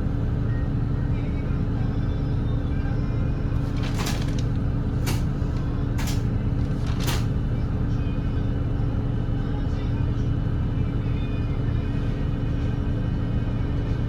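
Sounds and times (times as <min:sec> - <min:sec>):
diesel bus engine drone: 0:00.0 - 0:14.0.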